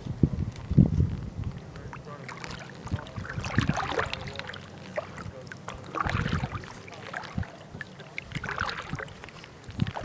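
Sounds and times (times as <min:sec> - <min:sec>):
kayak paddle splashing: 0:01.7 - 0:10.0.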